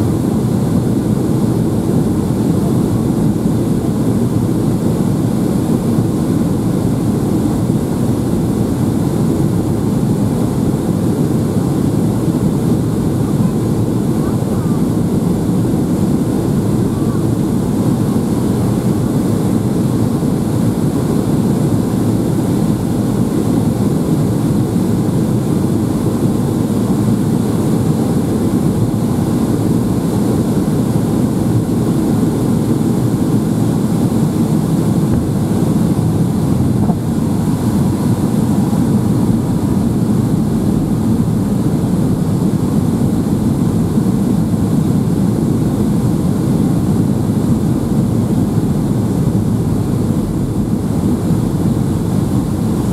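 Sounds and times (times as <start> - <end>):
aircraft cabin engine rush: 0.0 - 52.9.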